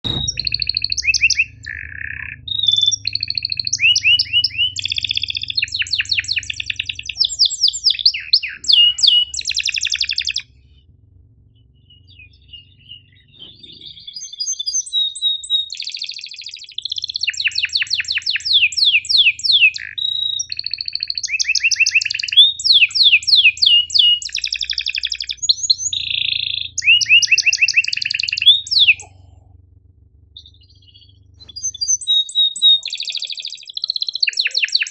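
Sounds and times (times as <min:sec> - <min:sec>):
canary singing trills and chirps: 0:00.0 - 0:10.8, 0:11.4 - 0:34.9.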